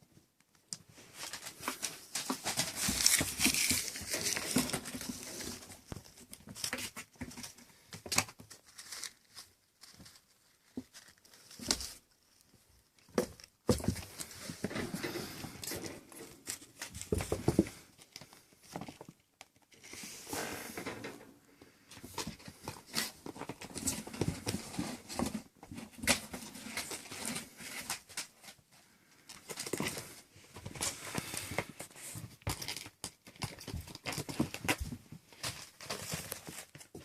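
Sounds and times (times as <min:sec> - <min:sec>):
kittens' claws scrambling and scratching: 0:00.5 - 0:37.0.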